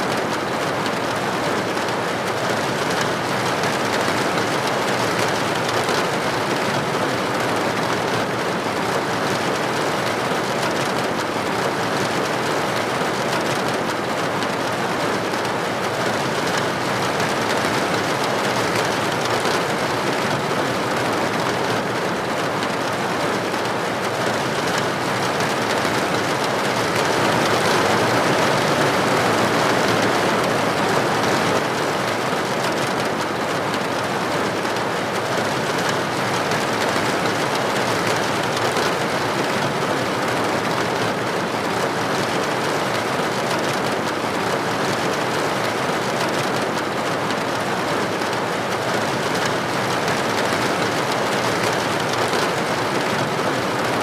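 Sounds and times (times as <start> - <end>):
steady rain falling: 0.1 - 54.0.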